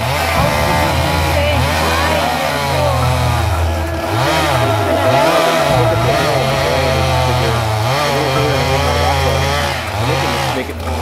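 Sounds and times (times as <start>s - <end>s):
chainsaw running at high revs: 2.0s - 11.0s.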